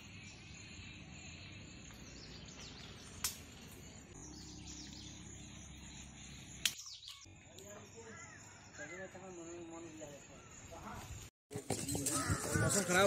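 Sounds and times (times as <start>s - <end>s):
bird chirps: 0.0s - 10.8s
steady outdoor hiss: 0.0s - 13.0s.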